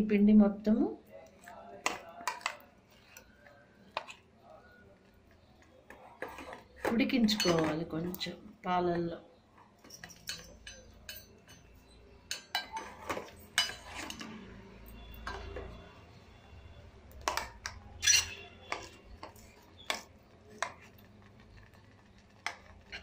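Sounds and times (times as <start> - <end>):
spoon scraping a steel pot: 1.3 - 8.3, 9.8 - 16.0, 17.1 - 23.0.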